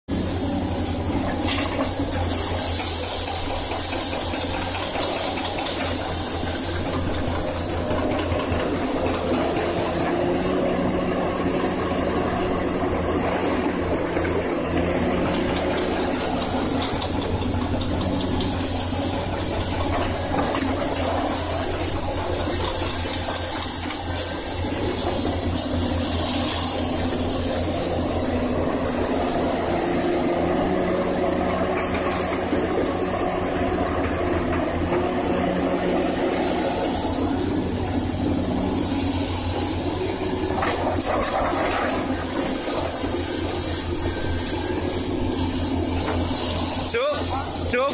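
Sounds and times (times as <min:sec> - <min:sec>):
excavator engine running: 0:00.1 - 0:47.9.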